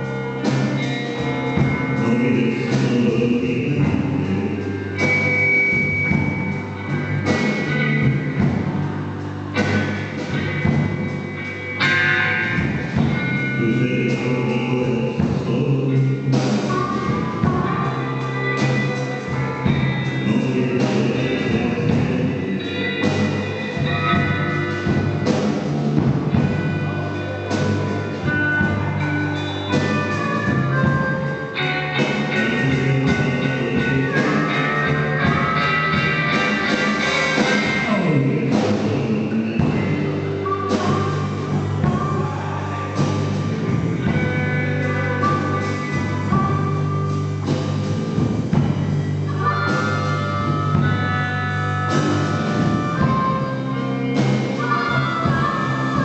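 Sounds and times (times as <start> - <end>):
person singing: 0.0 - 25.7, 26.3 - 56.0
blues-rock band playing: 0.0 - 56.0.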